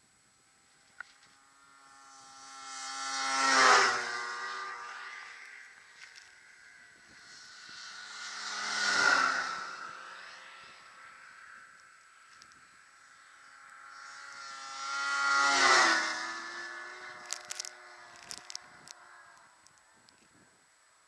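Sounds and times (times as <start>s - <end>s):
snowmobiles speeding past: 0.5s - 20.2s.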